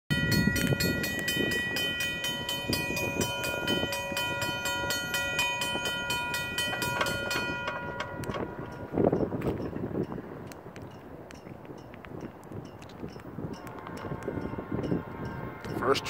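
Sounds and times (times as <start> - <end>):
railroad crossing bell ringing: 0.1 - 16.0.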